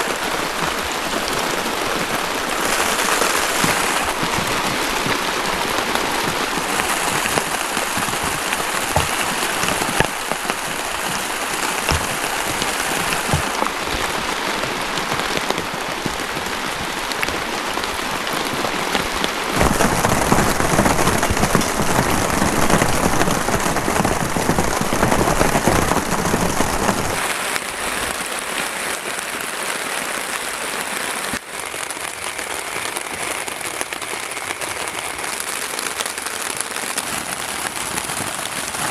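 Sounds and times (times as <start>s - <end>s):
heavy rain on plastic tarp: 0.0s - 38.9s.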